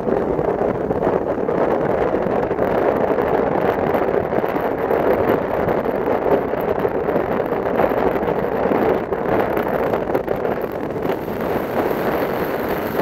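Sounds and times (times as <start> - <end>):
car road noise: 0.0 - 13.0
wind on microphone: 0.0 - 13.0.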